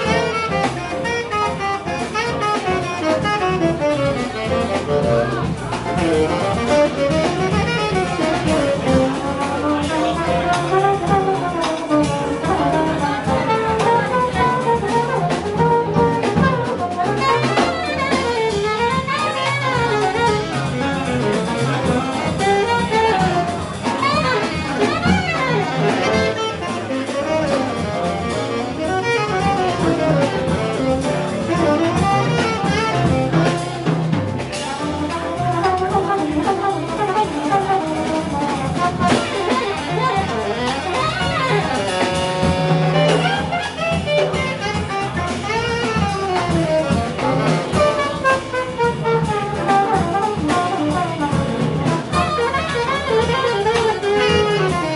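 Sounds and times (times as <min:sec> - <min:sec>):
double bass: 0:00.0 - 0:54.9
drum kit: 0:00.0 - 0:54.9
trombone: 0:00.0 - 0:54.9.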